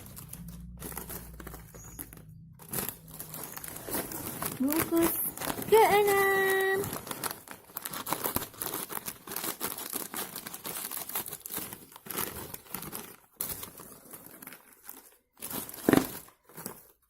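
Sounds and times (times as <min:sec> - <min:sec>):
plastic snack packet crinkling: 0:00.0 - 0:17.0.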